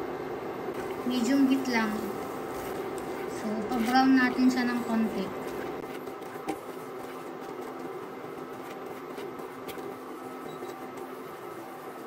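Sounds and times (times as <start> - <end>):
flour and oil sizzling in a pan: 0.7 - 12.0.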